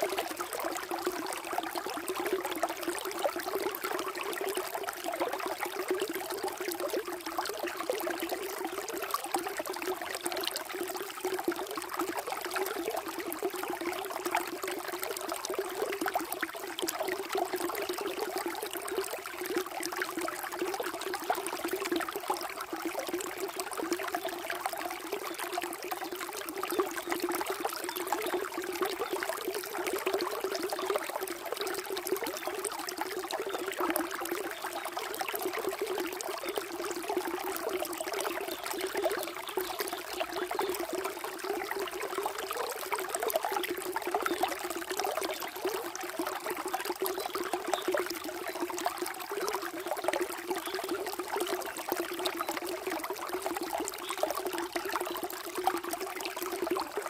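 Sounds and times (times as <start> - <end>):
water flowing and trickling: 0.0 - 57.0.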